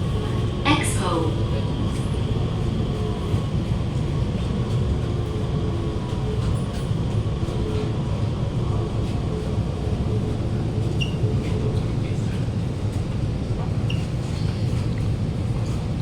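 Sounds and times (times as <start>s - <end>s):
wheels rumbling on rail: 0.0s - 16.0s.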